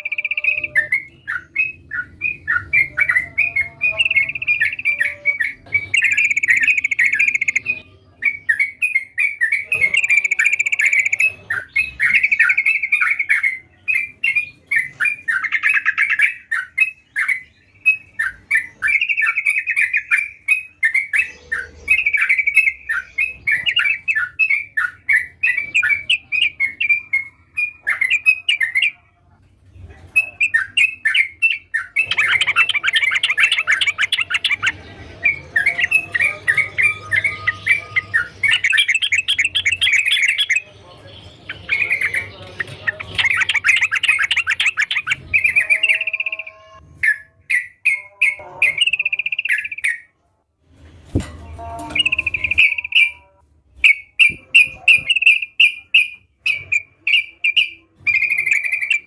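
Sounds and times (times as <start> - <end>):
bulbul singing chattering phrases: 0.0 - 29.2, 30.0 - 50.1, 51.4 - 59.0.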